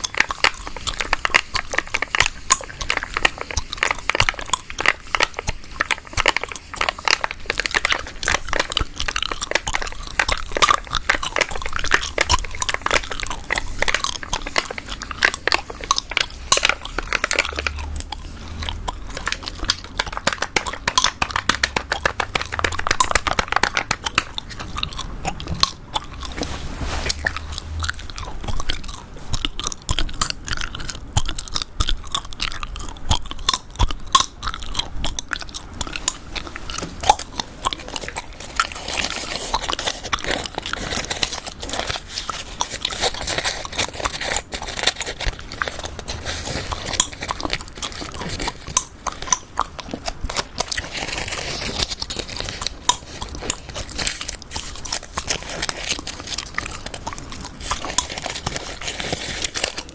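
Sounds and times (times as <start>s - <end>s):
gum chewing clicks and snaps: 0.0s - 59.9s.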